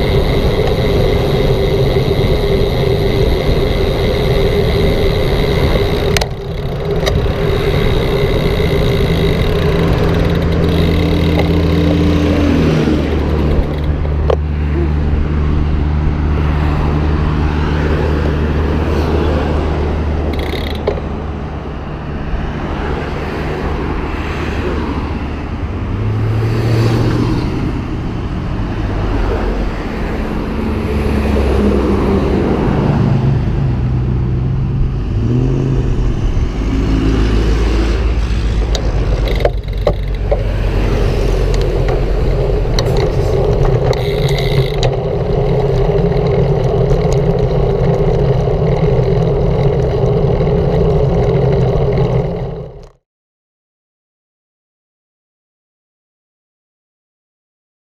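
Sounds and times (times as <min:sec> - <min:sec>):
cars and trucks passing: 0:00.0 - 0:53.0
traffic hum: 0:00.0 - 0:53.0.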